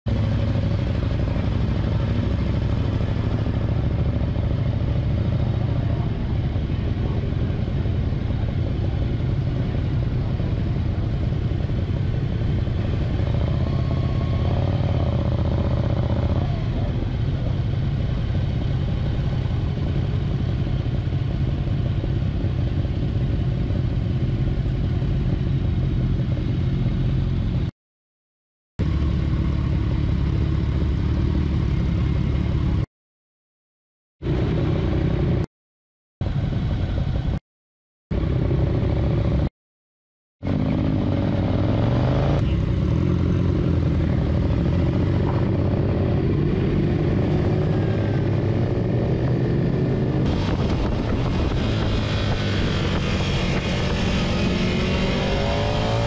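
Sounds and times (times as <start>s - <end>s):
motorcycle engine low rumble: 0.1s - 27.7s, 28.8s - 32.9s, 34.2s - 35.5s, 36.2s - 37.4s, 38.1s - 39.5s, 40.4s - 56.0s.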